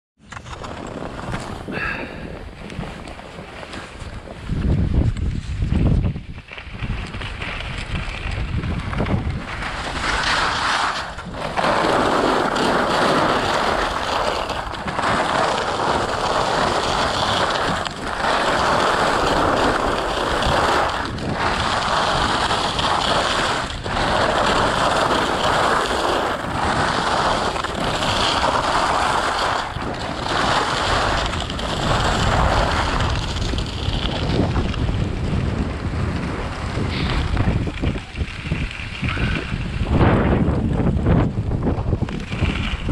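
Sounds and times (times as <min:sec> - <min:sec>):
skis scraping over snow: 0:00.2 - 0:42.9
wind buffeting microphone: 0:00.3 - 0:42.9.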